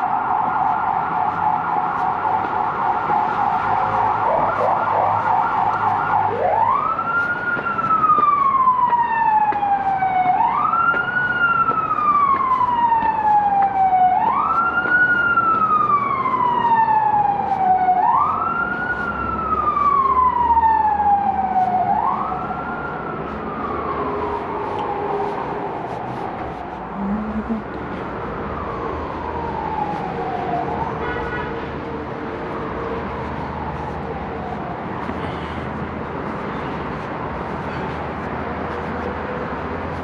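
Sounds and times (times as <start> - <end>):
emergency vehicle siren: 0.0 - 40.0.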